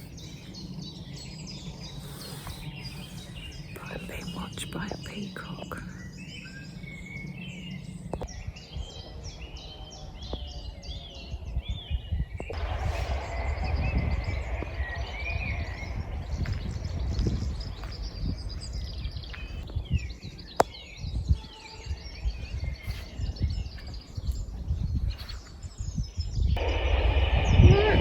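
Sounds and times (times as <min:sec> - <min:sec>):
small birds chirping: 0:00.0 - 0:28.0
wind rumbling on microphone: 0:00.0 - 0:28.0.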